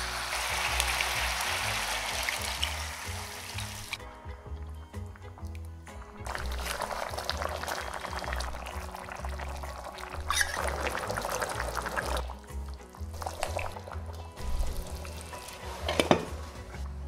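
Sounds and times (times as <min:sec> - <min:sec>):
water pouring into a pan: 0:00.0 - 0:04.0, 0:06.2 - 0:16.8
soft background music: 0:00.0 - 0:17.0.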